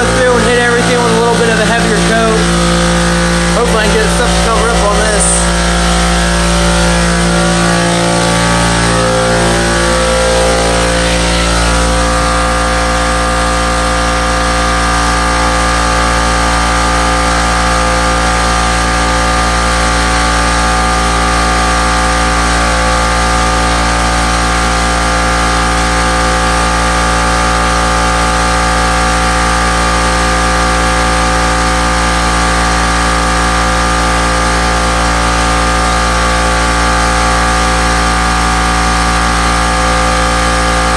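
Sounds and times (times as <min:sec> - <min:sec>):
air compressor motor drone: 0:00.0 - 0:40.9.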